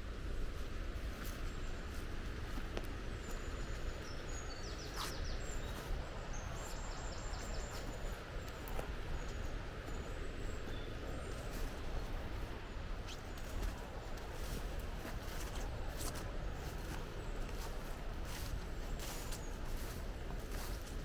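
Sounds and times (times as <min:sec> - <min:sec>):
small birds chirping: 0:00.5 - 0:21.0.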